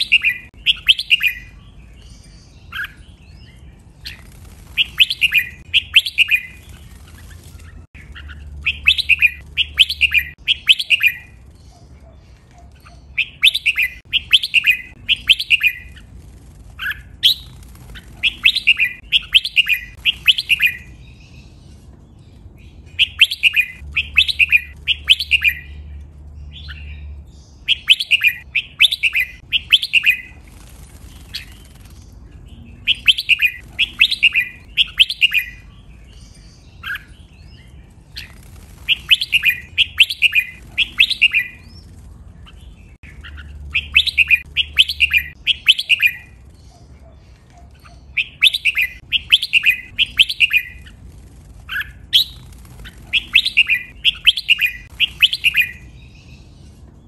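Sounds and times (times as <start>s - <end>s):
bird whistling song: 0.0s - 16.1s, 16.8s - 21.6s, 22.9s - 30.4s, 32.5s - 51.0s, 51.7s - 56.5s.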